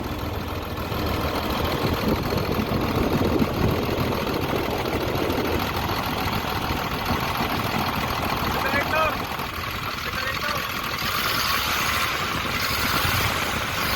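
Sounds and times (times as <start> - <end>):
engine idling with ticking: 0.0 - 13.9.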